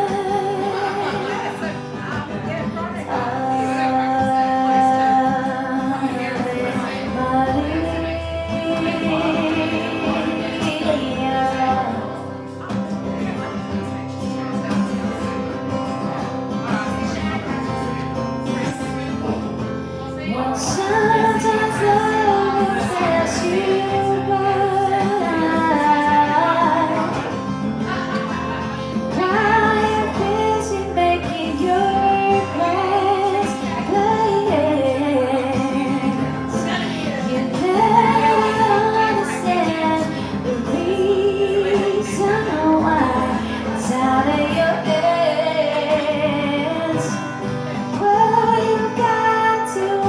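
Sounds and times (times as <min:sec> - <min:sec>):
person singing: 0:00.0 - 0:12.8, 0:20.2 - 0:50.0
acoustic guitar: 0:00.0 - 0:50.0.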